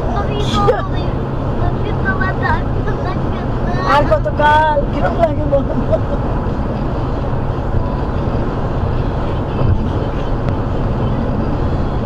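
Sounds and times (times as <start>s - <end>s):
car engine noise: 0.0s - 12.0s.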